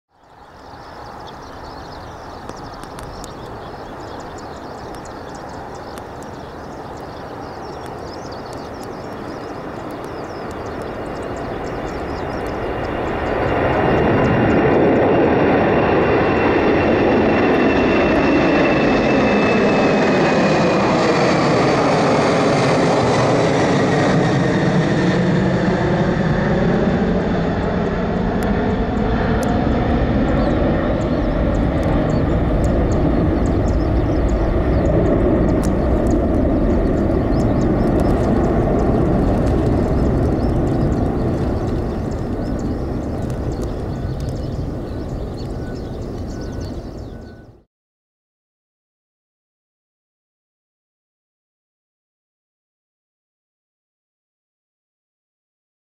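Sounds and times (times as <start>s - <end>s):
jet plane passing overhead: 0.1s - 47.7s.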